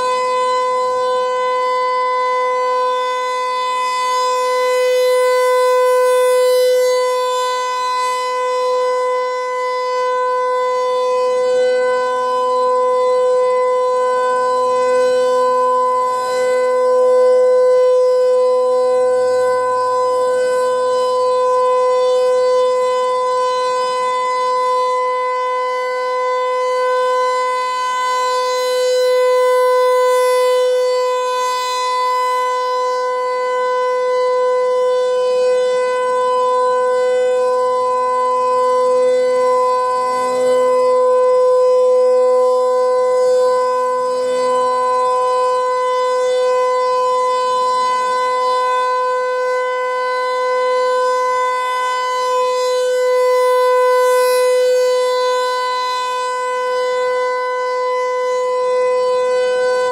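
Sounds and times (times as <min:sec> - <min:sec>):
rotating siren steady tone: 0:00.0 - 0:59.9.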